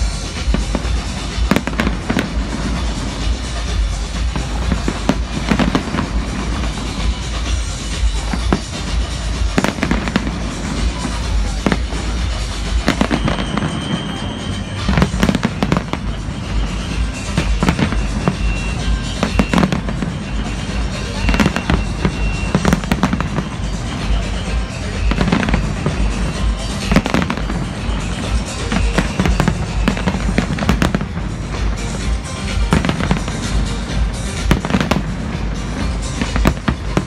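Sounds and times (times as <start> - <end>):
fireworks bursting bangs: 0.0 - 37.0
fireworks crackling: 0.0 - 37.0.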